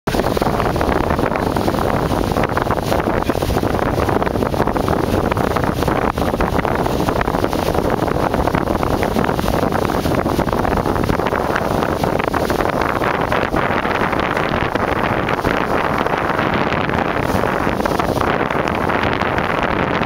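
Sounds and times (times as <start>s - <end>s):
water rushing along a hull: 0.1s - 20.0s
wind buffeting the microphone: 0.1s - 20.0s.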